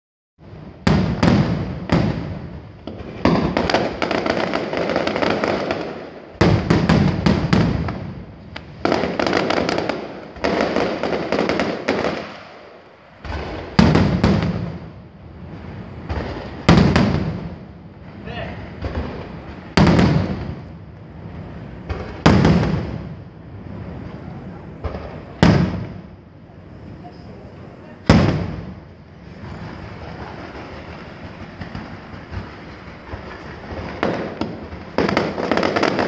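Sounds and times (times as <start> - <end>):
firework bangs: 0.4 - 36.0
rumbling crackling firework tail: 0.4 - 36.0.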